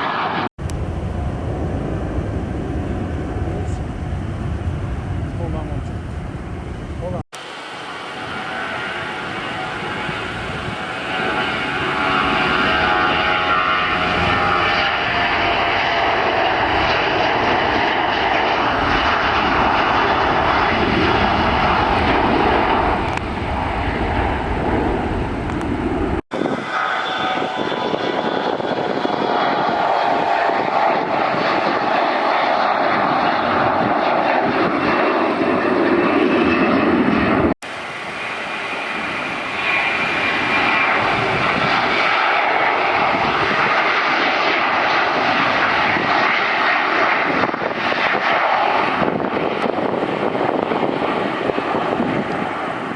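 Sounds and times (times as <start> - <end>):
jet engines whining: 0.0 - 52.9.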